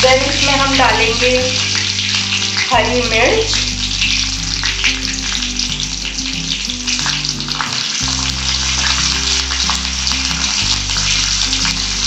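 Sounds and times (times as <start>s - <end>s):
background music: 0.0s - 12.0s
hot oil sizzling and crackling: 0.0s - 12.0s.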